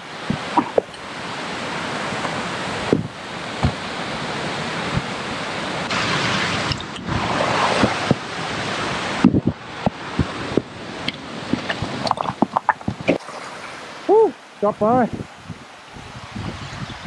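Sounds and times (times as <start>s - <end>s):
steady rushing noise: 0.0s - 16.8s.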